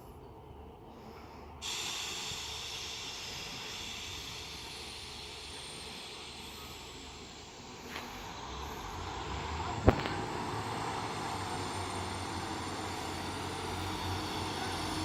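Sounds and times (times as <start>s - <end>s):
train air brakes hissing: 0.9s - 15.0s.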